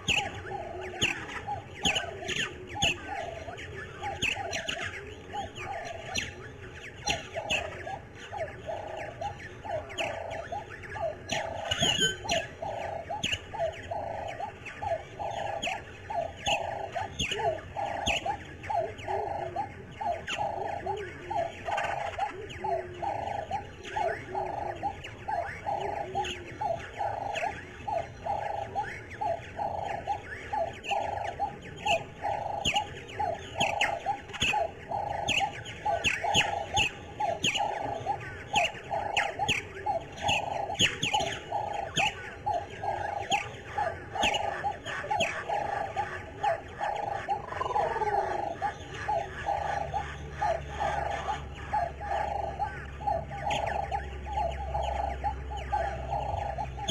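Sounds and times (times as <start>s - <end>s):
birds chirping: 0.0s - 56.9s
low pulsing bird call: 0.0s - 56.9s.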